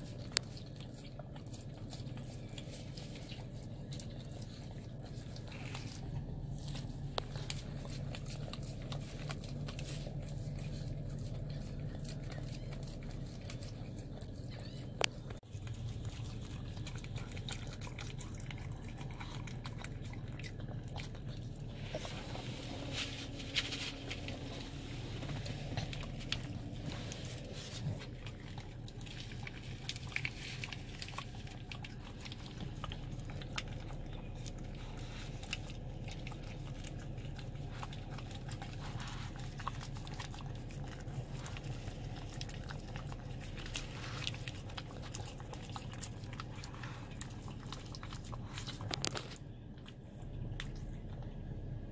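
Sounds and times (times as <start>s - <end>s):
dog licking and lapping: 0.0s - 51.9s
steady low hum: 0.0s - 51.9s.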